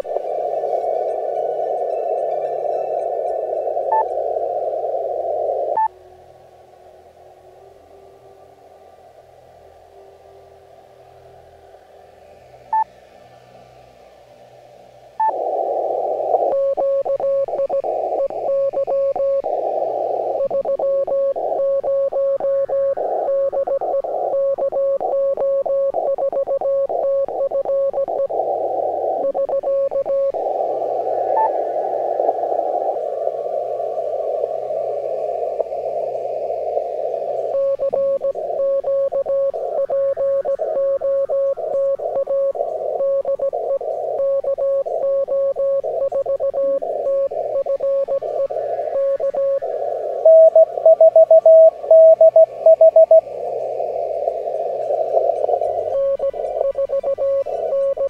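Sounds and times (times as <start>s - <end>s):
radio band noise hiss: 0.0s - 58.0s.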